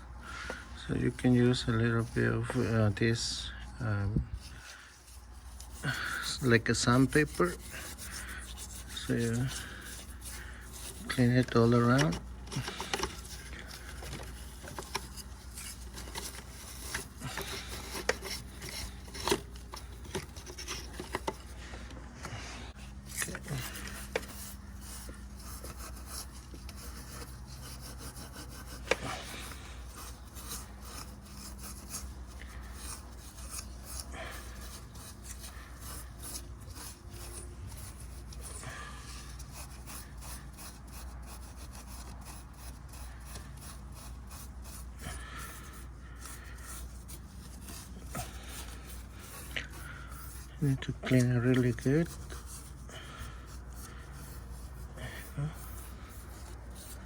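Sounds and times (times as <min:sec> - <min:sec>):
abrasive pad scrubbing metal: 0:04.4 - 0:21.7, 0:22.7 - 0:57.0.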